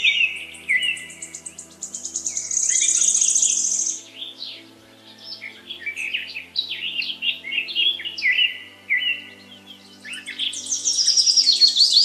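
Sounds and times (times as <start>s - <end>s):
high-pitched bird trill: 0.0s - 4.5s, 5.6s - 12.0s
birds chirping: 0.0s - 12.0s
soft background music: 0.0s - 12.0s.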